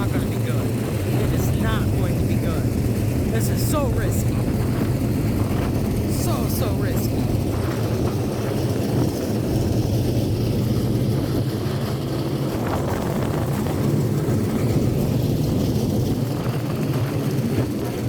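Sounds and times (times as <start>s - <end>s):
race car engines rumbling: 0.0s - 18.0s.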